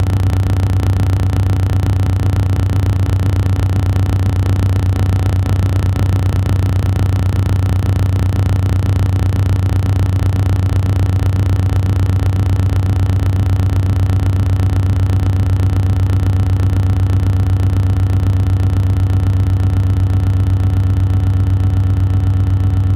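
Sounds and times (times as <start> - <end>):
loud buzzy low hum: 0.0 - 22.9.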